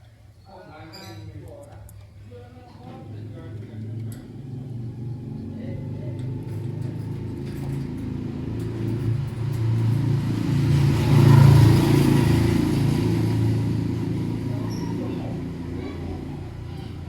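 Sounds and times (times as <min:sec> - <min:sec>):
passing vehicle engine rumble: 0:02.8 - 0:17.0.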